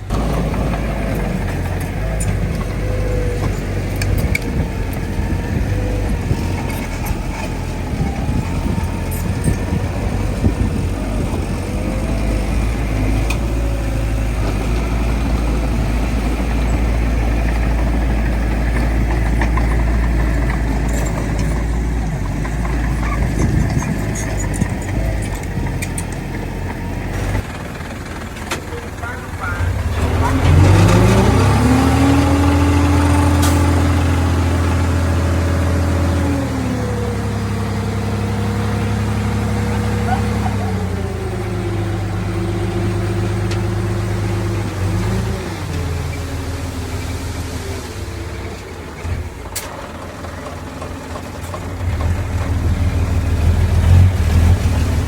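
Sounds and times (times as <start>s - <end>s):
diesel earthmoving machinery running: 0.0s - 55.0s.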